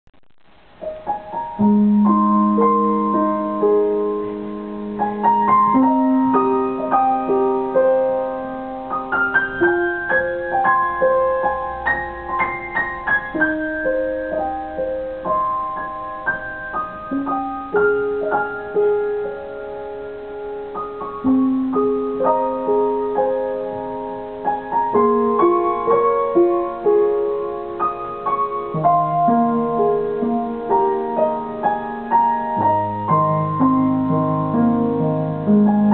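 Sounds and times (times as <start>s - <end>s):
piano music: 0.6s - 35.9s.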